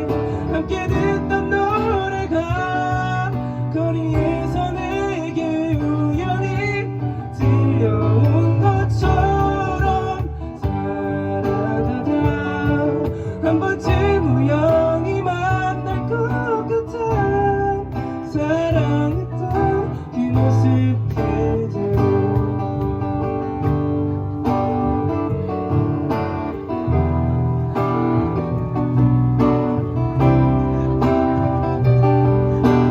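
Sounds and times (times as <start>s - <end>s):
live band playing: 0.0s - 32.9s
strummed acoustic guitar: 0.0s - 32.9s.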